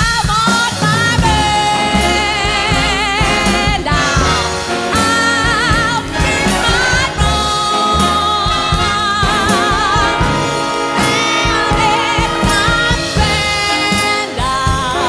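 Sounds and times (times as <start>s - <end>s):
big band playing: 0.0s - 15.0s
person singing with vibrato: 0.0s - 15.0s.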